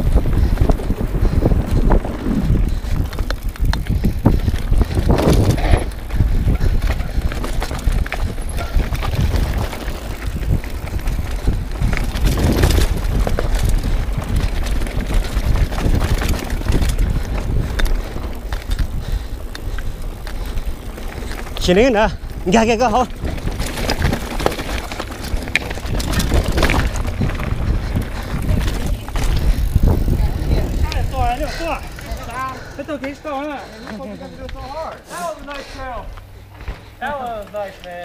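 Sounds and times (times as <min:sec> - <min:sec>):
bike knocking and rattling: 0:00.0 - 0:38.0
bike tyres crunching on dirt and rock: 0:00.0 - 0:38.0.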